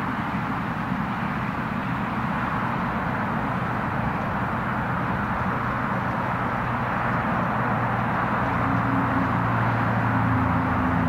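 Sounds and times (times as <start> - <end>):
jet airliner engine noise: 0.0 - 11.0.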